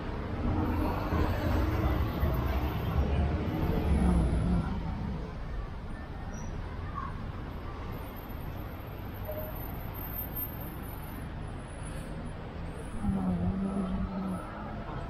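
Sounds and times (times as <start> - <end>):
car engines and tyres on road: 0.0 - 15.0.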